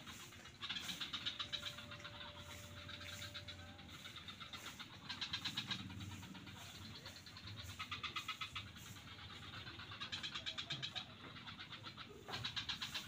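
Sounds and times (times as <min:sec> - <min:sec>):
frogs calling in pulsed notes: 0:00.0 - 0:13.0.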